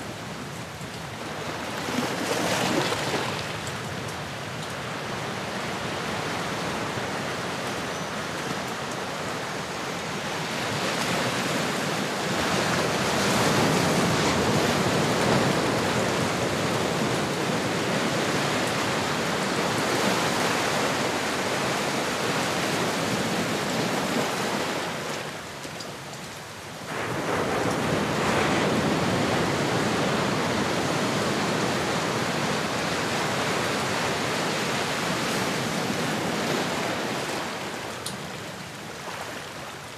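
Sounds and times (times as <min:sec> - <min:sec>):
ocean waves breaking: 0:00.0 - 0:04.0, 0:04.8 - 0:25.6, 0:26.8 - 0:39.9.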